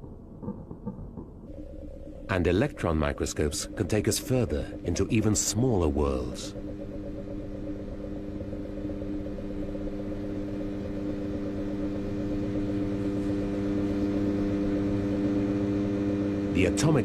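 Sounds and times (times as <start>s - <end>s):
droning hum of held tones: 0.0s - 17.0s.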